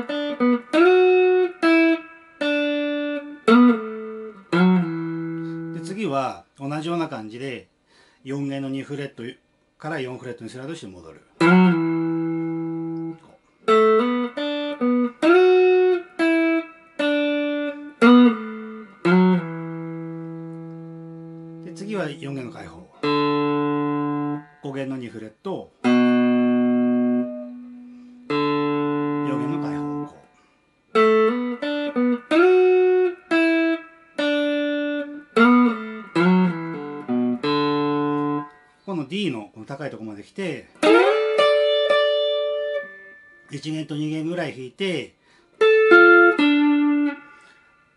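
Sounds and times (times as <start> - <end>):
clean electric guitar picked notes: 0.0 - 6.0, 11.4 - 25.1, 25.8 - 38.9, 40.7 - 44.2, 45.6 - 47.9.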